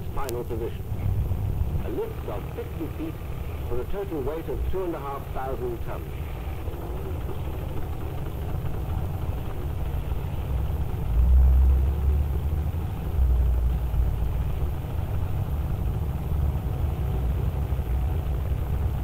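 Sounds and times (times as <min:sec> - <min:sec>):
low machinery rumble: 0:00.0 - 0:19.0.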